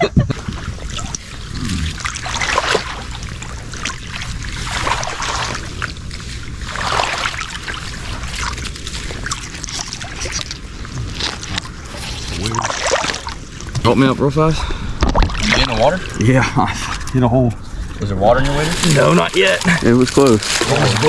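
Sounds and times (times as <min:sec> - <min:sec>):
steady low rumble: 0:00.0 - 0:21.0
wading through water sloshing: 0:00.0 - 0:21.0.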